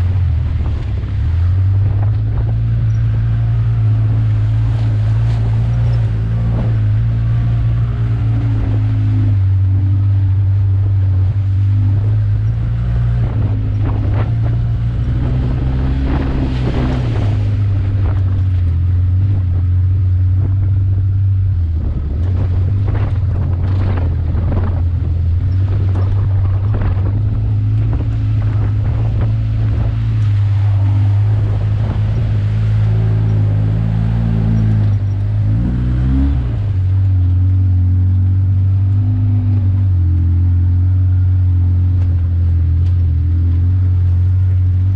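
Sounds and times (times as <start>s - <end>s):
atv engine running: 0.0s - 44.9s
tires splashing through mud: 0.0s - 44.9s
wind on microphone: 0.0s - 44.9s.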